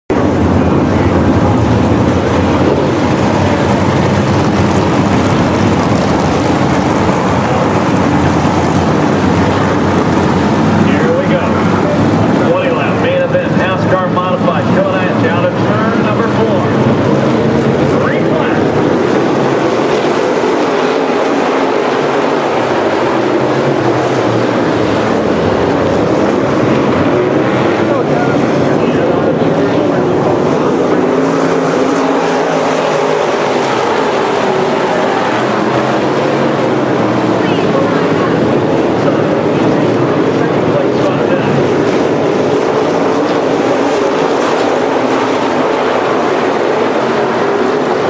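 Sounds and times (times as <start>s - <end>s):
race car engines drone: 0.1s - 48.0s.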